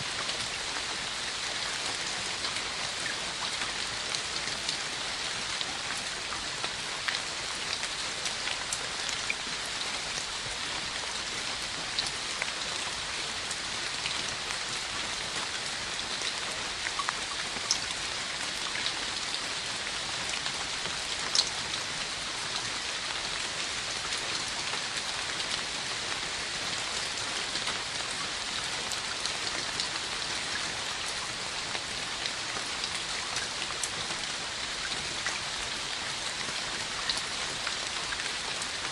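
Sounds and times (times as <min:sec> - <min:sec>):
steady rain hiss: 0:00.0 - 0:38.9
raindrops ticking close by: 0:00.1 - 0:38.9.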